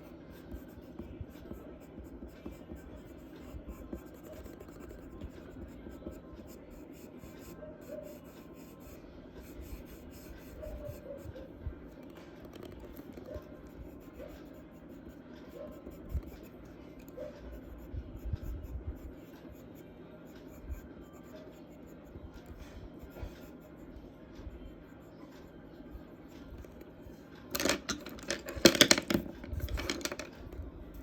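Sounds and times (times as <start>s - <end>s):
pencil scratching on paper: 0.0s - 27.2s.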